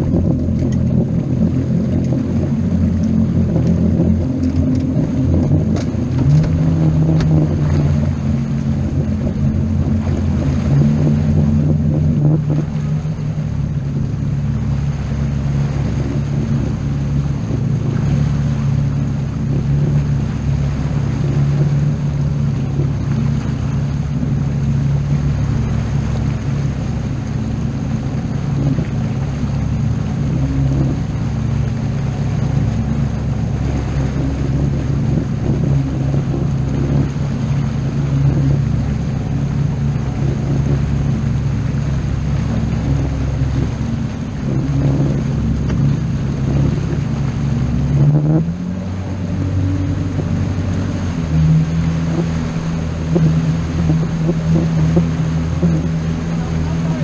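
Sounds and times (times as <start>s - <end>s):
motorboat engine running: 0.0s - 57.0s
water noise: 0.0s - 57.0s
wind: 0.0s - 57.0s.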